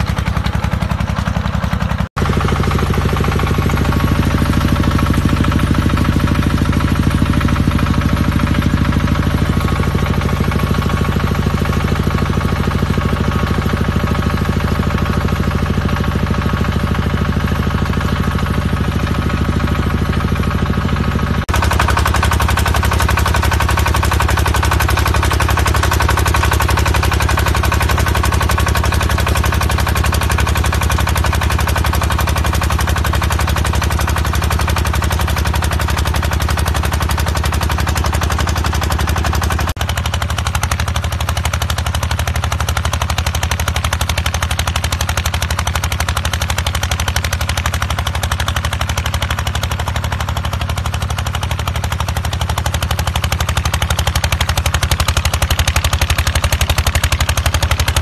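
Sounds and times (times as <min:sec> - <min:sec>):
tiller engine running under load: 0:00.0 - 0:58.0.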